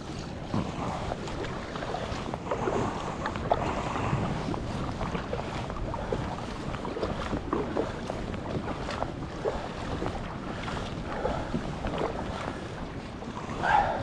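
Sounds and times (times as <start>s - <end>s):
sea water lapping and splashing: 0.0s - 14.0s
wind buffeting microphone: 0.0s - 14.0s.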